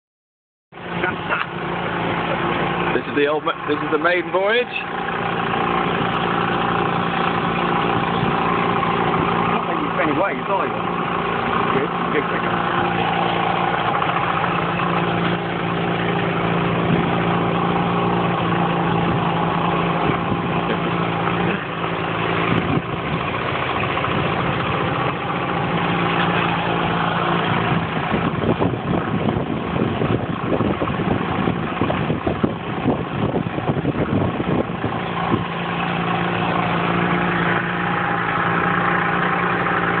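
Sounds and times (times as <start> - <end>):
outboard motor running: 0.7 - 40.0.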